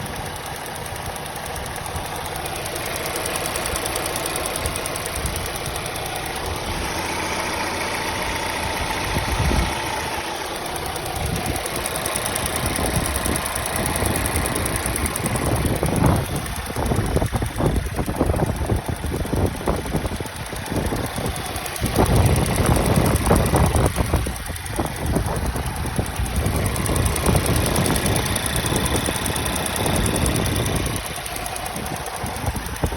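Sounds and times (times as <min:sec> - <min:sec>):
car engine running: 0:00.0 - 0:32.9
engine ticking: 0:00.0 - 0:32.9.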